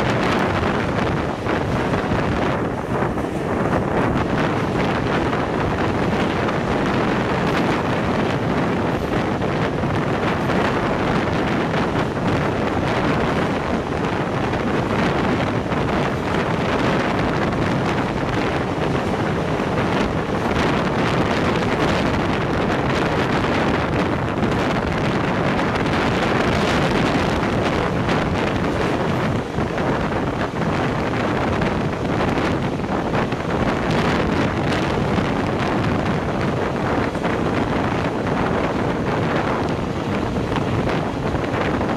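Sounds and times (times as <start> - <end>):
train rumbling: 0.0 - 41.9
wind buffeting microphone: 0.0 - 41.9.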